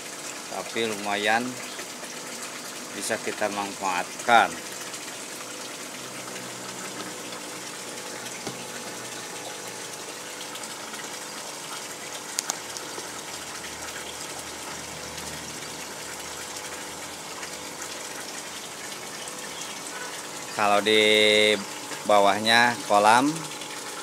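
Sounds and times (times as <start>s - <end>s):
water pouring into a pond: 0.0s - 24.0s.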